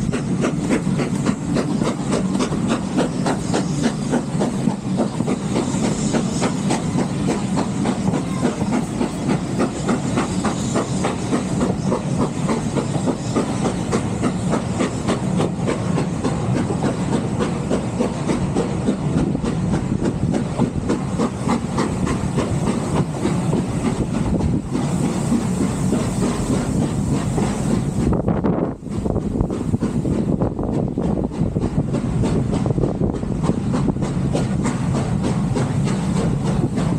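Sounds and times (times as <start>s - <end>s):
steam train rumble and hiss: 0.0s - 36.9s
train wheels clicking over rail joints: 0.0s - 36.9s.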